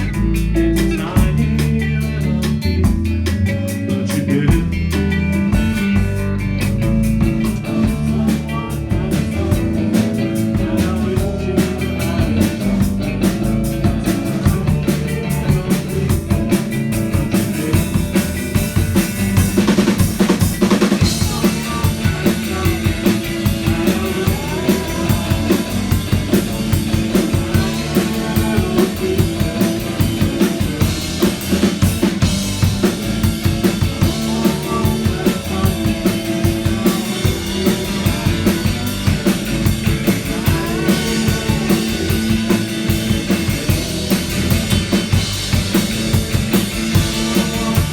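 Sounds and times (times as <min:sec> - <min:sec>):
drum kit beat: 0:00.0 - 0:47.9
rock band playing: 0:00.0 - 0:47.9.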